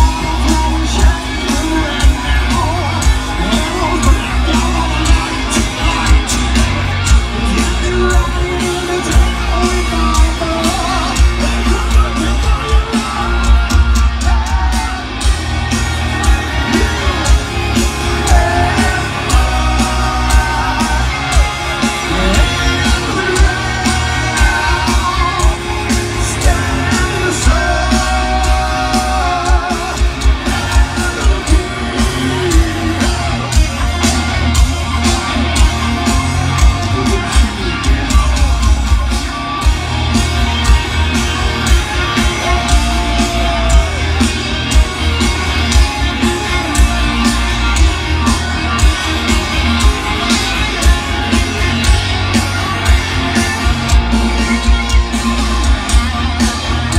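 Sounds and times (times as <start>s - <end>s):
heavy drum beat: 0.0s - 56.9s
heavy metal band playing live: 0.0s - 56.9s.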